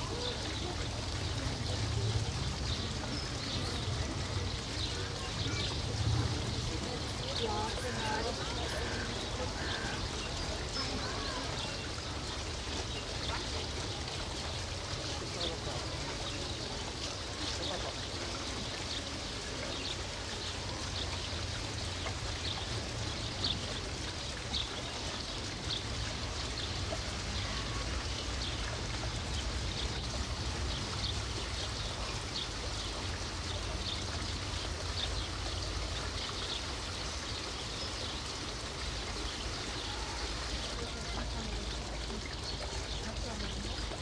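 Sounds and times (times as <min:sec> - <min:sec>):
rushing water-like noise: 0:00.0 - 0:44.0.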